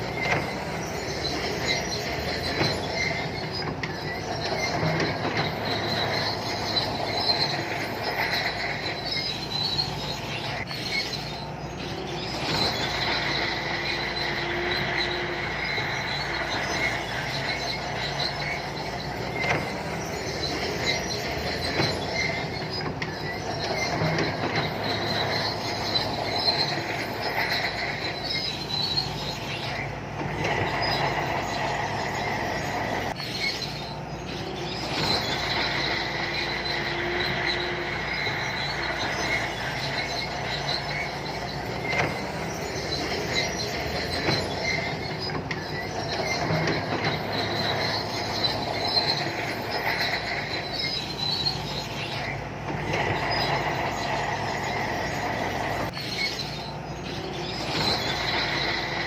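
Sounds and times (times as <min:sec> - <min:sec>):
diesel engine under load: 0:00.0 - 0:59.0
steel tracks squealing and clanking: 0:00.0 - 0:59.0.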